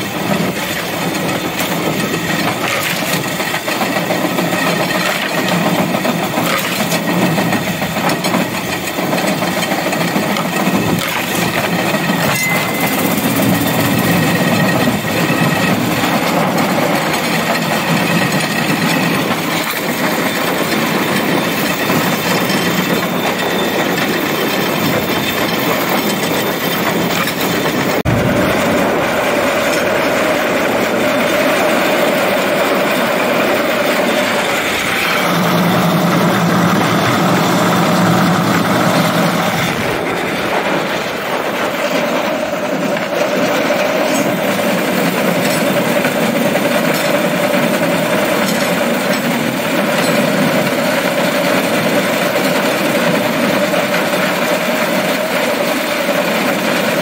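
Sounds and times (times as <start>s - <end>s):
small engine running: 0.0s - 57.0s
wheels rolling on rails: 0.0s - 57.0s.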